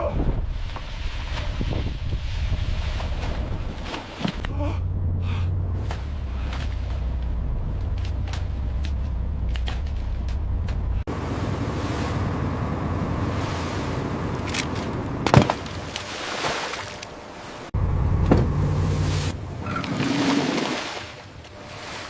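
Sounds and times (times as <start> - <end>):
water washing: 0.5 - 22.0
boat engine drone: 2.2 - 22.0.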